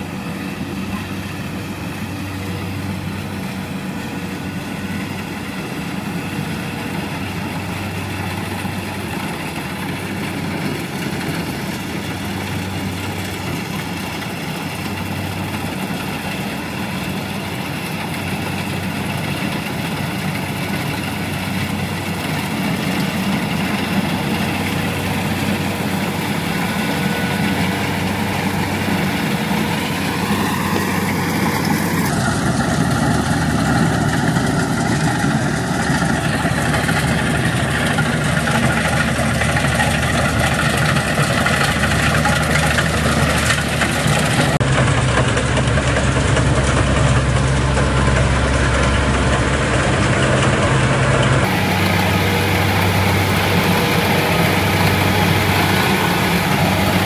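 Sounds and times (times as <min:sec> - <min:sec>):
combine harvester engine hum: 0:00.0 - 0:57.0.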